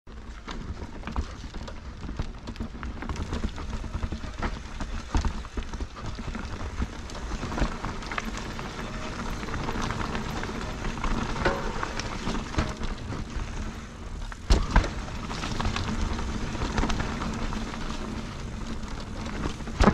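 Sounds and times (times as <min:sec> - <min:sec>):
bike clattering over bumps: 0:00.1 - 0:19.9
tyres crunching over gravel: 0:00.2 - 0:19.9.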